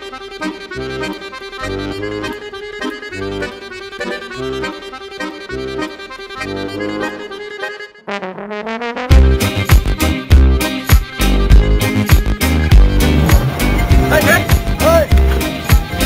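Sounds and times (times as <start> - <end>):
lively instrumental music: 0.0 - 16.0.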